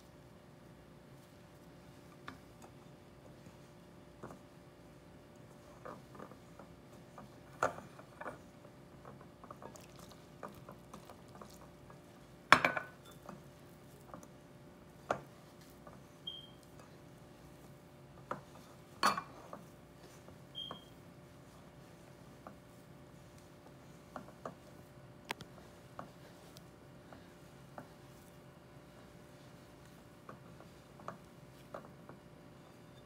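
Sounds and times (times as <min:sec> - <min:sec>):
hands kneading dough: 0:00.0 - 0:33.0.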